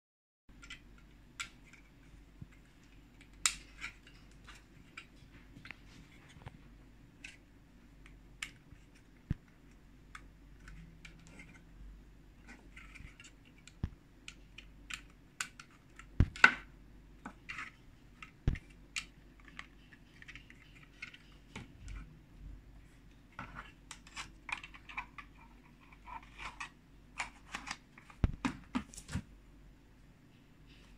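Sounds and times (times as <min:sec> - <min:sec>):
faint low hum: 0:00.5 - 0:30.9.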